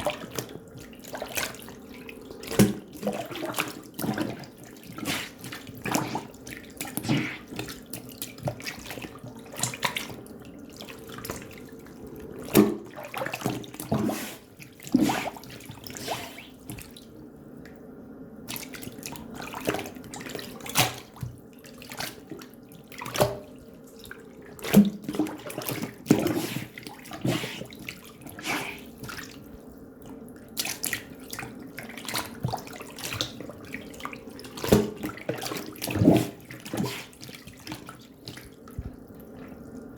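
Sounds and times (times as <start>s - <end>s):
water splashing and dripping: 0.0s - 17.1s, 18.5s - 39.9s
faint steady hum: 0.0s - 39.9s.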